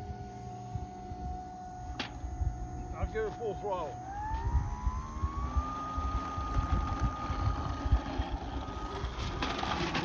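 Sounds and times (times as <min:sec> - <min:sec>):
model airplane motor whine: 0:00.0 - 0:10.0.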